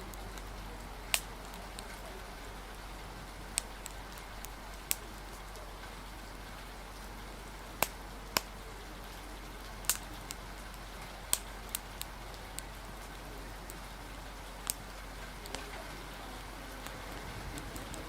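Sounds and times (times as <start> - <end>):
open fire crackling: 0.0 - 18.0
rain hissing: 0.0 - 18.0
wind: 0.0 - 18.0.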